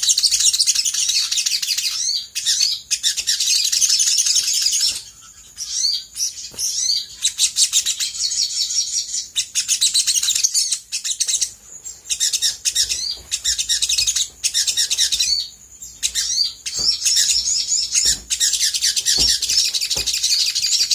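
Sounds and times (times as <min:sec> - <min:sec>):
bird singing high-pitched chirps: 0:00.0 - 0:20.9.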